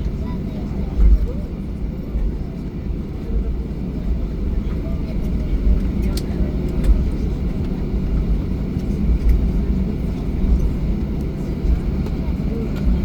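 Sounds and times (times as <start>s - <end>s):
aircraft engines rumbling: 0.0s - 13.0s.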